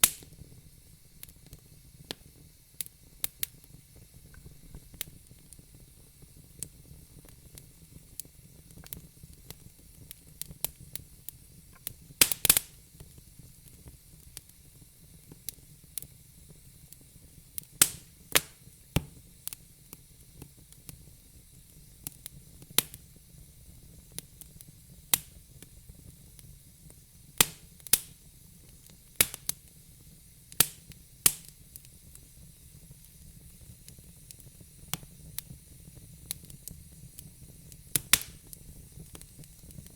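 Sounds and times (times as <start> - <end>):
burning logs crackling: 0.0 - 39.9
faint steady hiss: 0.0 - 39.9.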